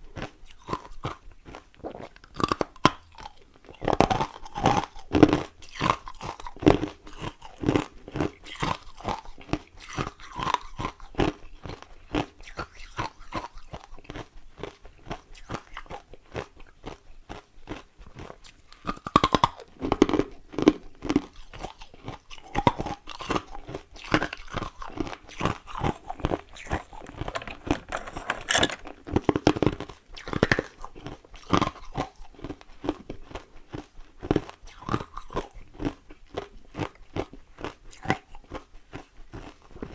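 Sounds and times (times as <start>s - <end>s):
chewing ice crunching: 0.0s - 39.9s.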